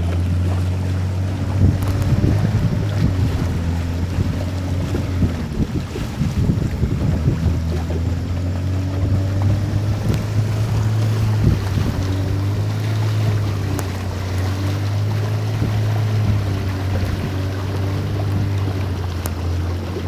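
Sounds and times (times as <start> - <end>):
boat engine droning: 0.0 - 20.0
rushing water: 0.0 - 20.0
wind noise: 0.0 - 20.0.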